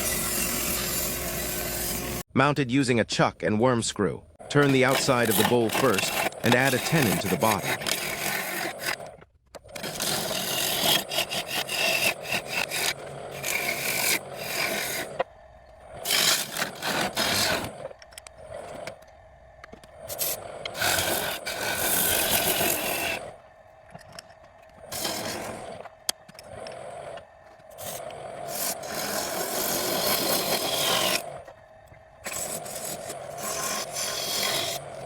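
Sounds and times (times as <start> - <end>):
lathe tool cutting wood: 0.0 - 2.3, 4.4 - 19.0, 20.0 - 23.4, 24.8 - 31.5, 32.2 - 35.0.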